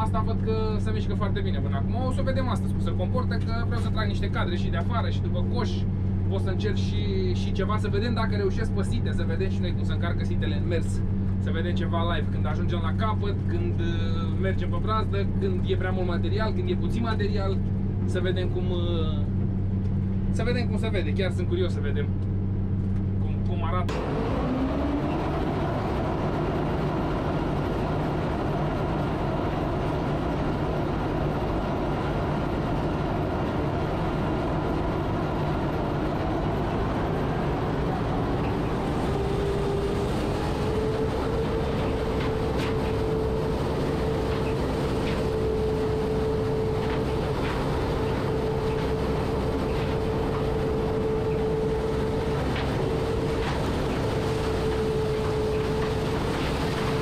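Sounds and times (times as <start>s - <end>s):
combine mechanical drone: 0.0s - 57.0s
high whine: 0.0s - 57.0s.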